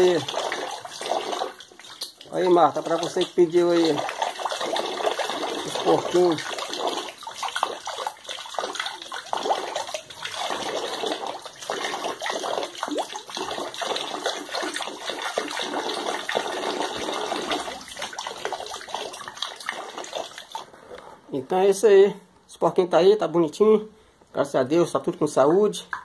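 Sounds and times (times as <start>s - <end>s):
piglets slurping and splashing water: 0.0s - 20.9s.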